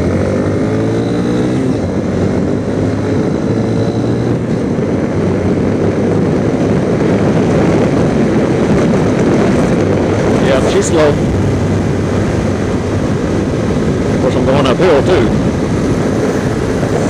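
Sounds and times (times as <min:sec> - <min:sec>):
motorcycle engine accelerating: 0:00.0 - 0:17.0
wind and road noise: 0:00.0 - 0:17.0.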